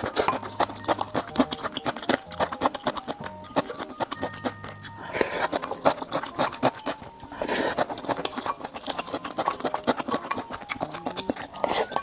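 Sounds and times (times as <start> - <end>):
chewing and mouth clicks: 0.0 - 12.0
wooden spoon scraping glass bowl: 0.0 - 12.0.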